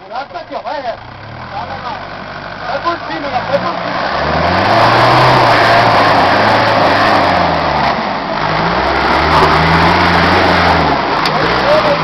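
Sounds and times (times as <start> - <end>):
off-road vehicle engine revving: 0.1 - 12.0.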